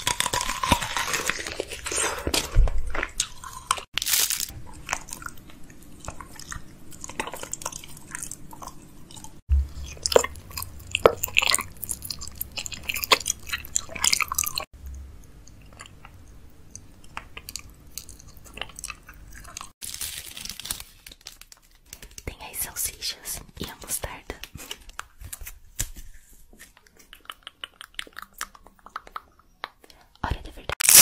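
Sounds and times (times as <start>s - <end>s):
chewing and crunching candy: 0.0s - 22.3s, 26.8s - 31.0s.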